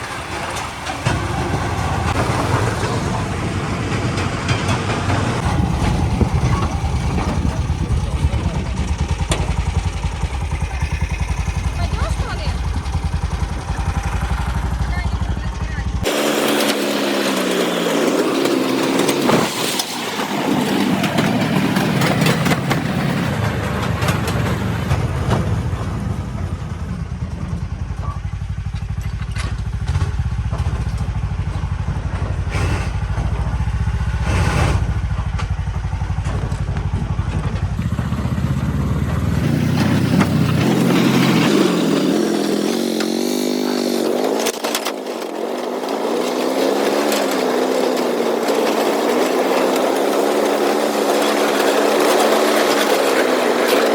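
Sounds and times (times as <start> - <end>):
vehicle engine revving: 0.0 - 53.9.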